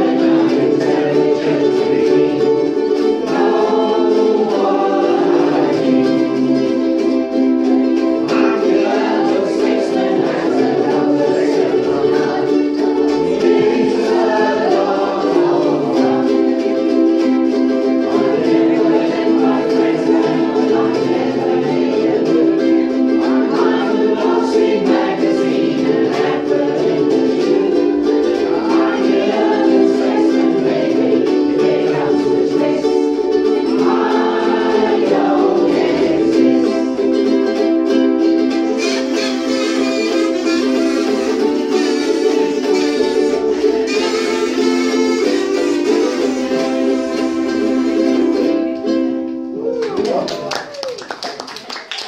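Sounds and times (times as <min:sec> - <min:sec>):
voices singing along: 0:00.0 - 0:49.2
ukulele ensemble strumming: 0:00.0 - 0:52.0.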